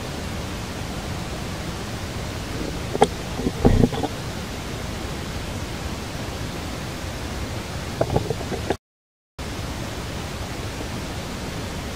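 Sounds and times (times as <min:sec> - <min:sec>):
steady outdoor hiss: 0:00.0 - 0:08.8, 0:09.4 - 0:11.9.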